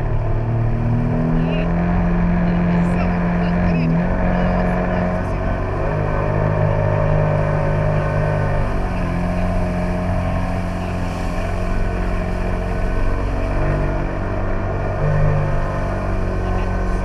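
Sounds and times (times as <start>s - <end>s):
jet ski engine running: 0.0s - 17.0s.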